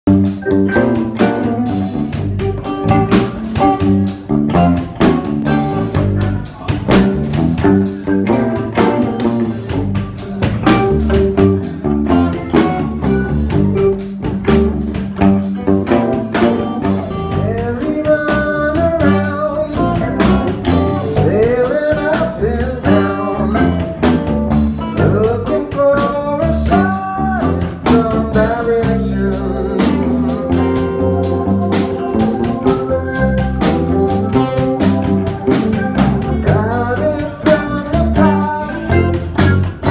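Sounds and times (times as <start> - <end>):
drum kit: 0.0 - 39.9
electric bass: 0.0 - 39.9
keyboard playing: 0.0 - 39.9
electric guitar: 0.1 - 39.9.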